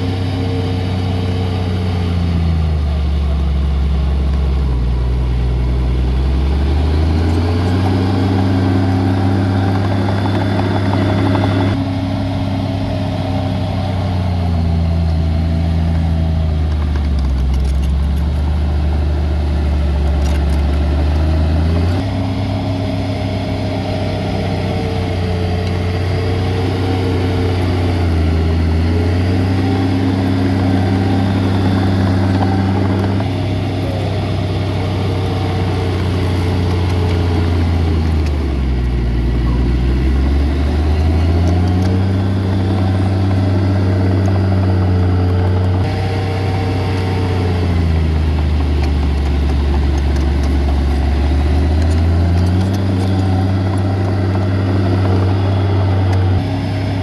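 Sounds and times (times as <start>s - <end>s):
heavy machine diesel engine: 0.0s - 57.0s.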